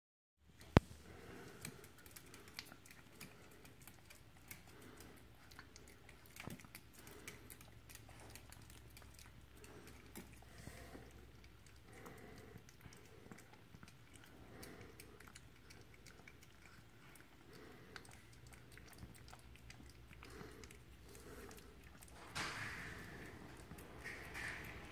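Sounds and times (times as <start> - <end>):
dog licking and chewing: 0.5 - 24.9.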